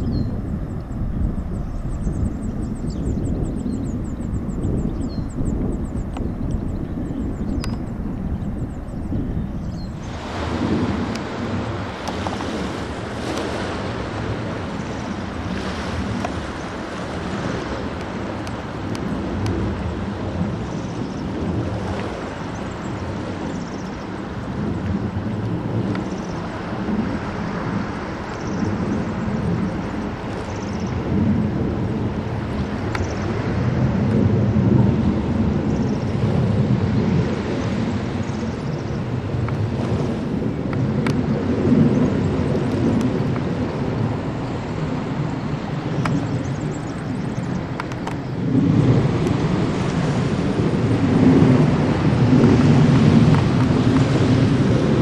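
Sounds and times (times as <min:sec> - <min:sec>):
distant jet engine drone: 0:00.0 - 0:55.0.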